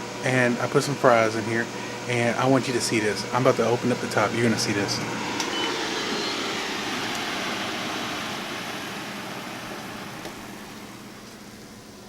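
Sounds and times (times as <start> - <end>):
air fryer fan whooshing: 0.0 - 12.0.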